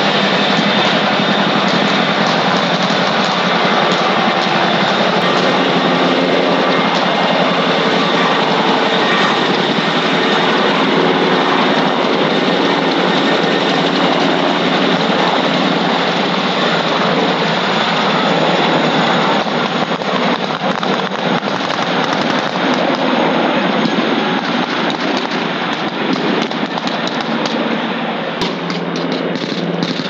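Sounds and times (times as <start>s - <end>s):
helicopter rotor chopping: 0.0s - 30.0s.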